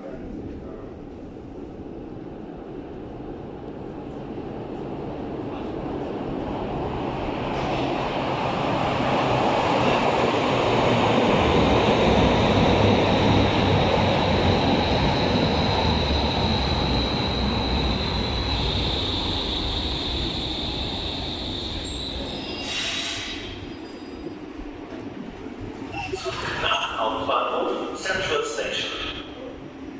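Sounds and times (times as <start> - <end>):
train wheels rumbling on rail: 0.0 - 29.9.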